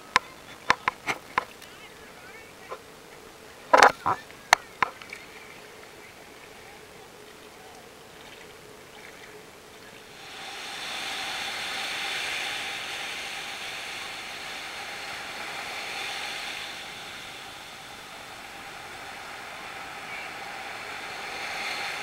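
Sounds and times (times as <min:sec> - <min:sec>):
waves washing on beach: 0:00.7 - 0:22.0.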